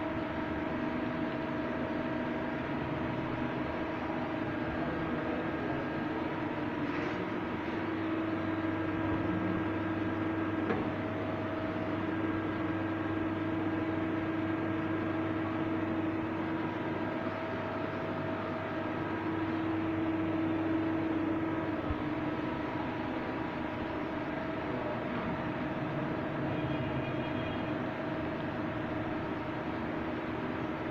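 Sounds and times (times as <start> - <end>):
lathe machine hum: 0.0 - 30.9.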